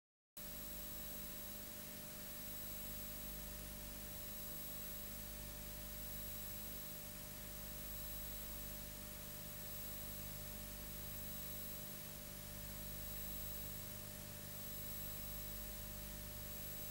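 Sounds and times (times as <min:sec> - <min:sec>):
faint electrical hum and whine: 0:00.4 - 0:16.9.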